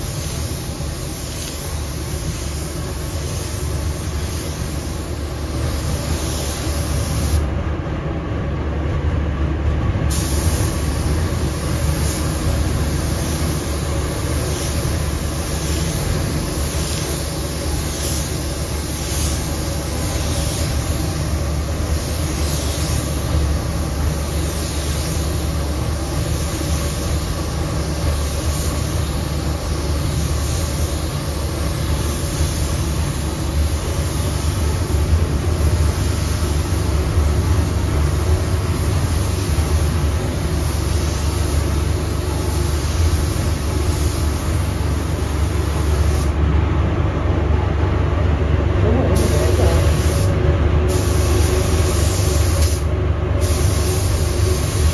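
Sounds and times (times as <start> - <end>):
paint spray gun hissing: 0.0 - 7.5, 10.1 - 46.4, 49.2 - 50.3, 50.9 - 54.9.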